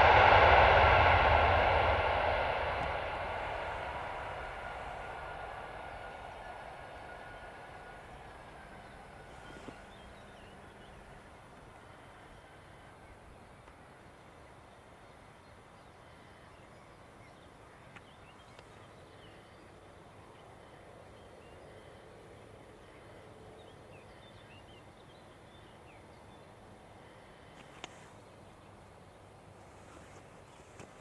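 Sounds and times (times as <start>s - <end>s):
faint outdoor background noise: 0.0s - 31.0s.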